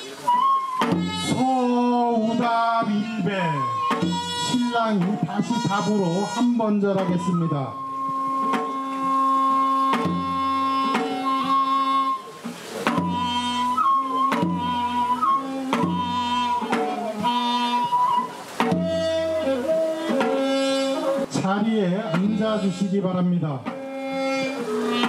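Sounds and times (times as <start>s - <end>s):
drum strokes: 0.0s - 25.0s
sliding melody of long notes: 0.0s - 25.0s.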